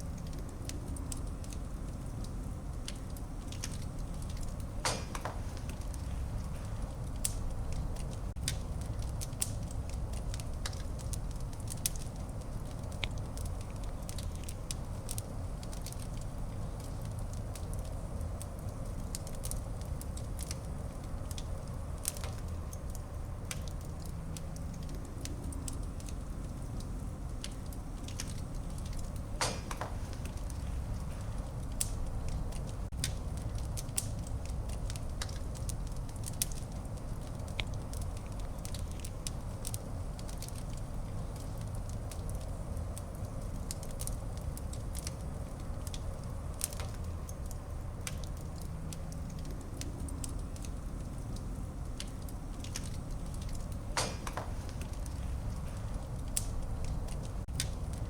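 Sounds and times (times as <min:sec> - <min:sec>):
fire burning in fireplace: 0:00.0 - 0:58.0
fire crackling and popping: 0:00.0 - 0:58.0.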